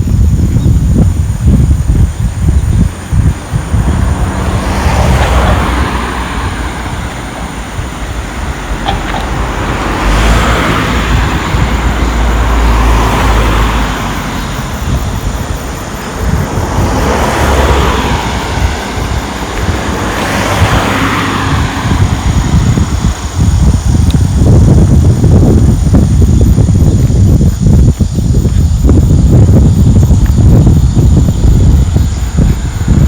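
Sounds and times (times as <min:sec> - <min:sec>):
wind rumbling on microphone: 0:00.0 - 0:33.0
cars passing: 0:00.2 - 0:33.0.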